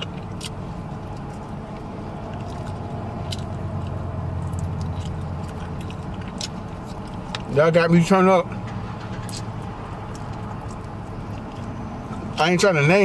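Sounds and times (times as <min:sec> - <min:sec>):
person chewing meat: 0:00.0 - 0:07.6, 0:09.2 - 0:12.5
wet clicks and smacks: 0:00.0 - 0:07.6, 0:09.1 - 0:12.5
car engine idling: 0:00.0 - 0:13.0.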